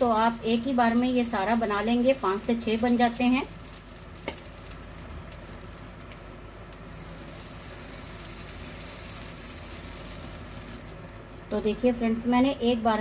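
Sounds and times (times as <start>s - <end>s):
batter sizzling in oil: 0.0s - 12.5s.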